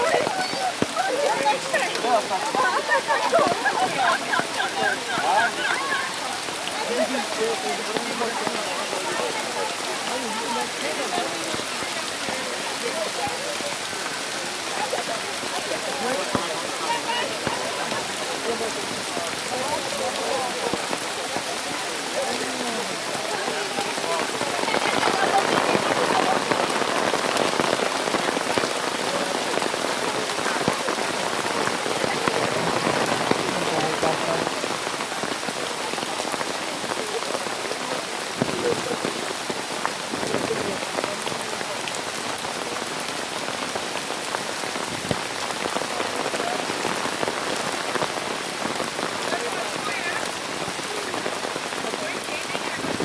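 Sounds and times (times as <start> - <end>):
hail falling: 0.0 - 53.0.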